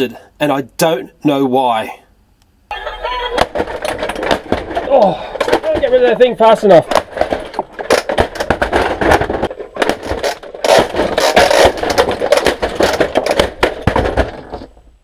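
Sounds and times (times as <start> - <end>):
plastic toys crashing and clattering: 2.8 - 15.0.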